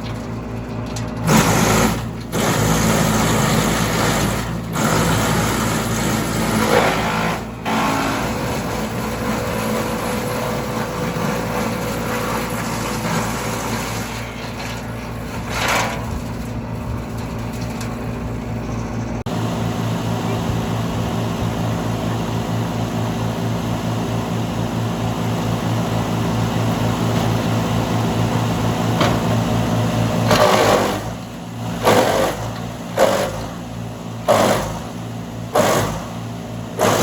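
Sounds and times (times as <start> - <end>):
wood chipper running: 0.0 - 37.0.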